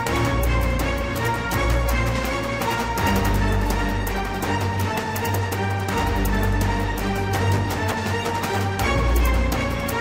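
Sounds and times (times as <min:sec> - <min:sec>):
dramatic music with strings and bass: 0:00.0 - 0:10.0.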